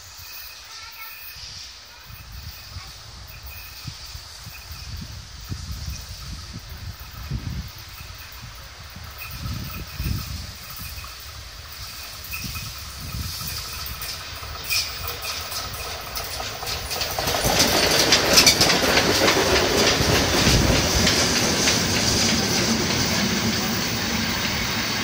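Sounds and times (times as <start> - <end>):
steam train passing: 0.0 - 25.0
wheels clicking over rail joints: 4.4 - 25.0.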